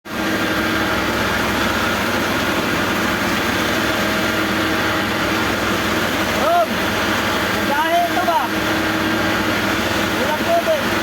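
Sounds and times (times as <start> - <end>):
heavy machinery engine running: 0.1 - 11.0.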